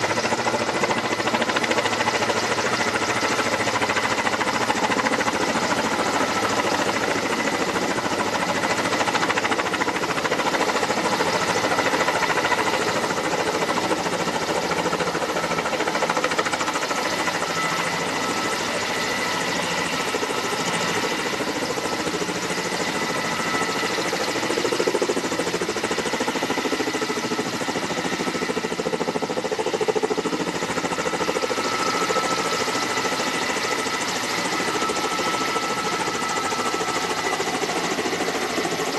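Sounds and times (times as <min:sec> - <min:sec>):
helicopter hovering: 0:00.0 - 0:38.9.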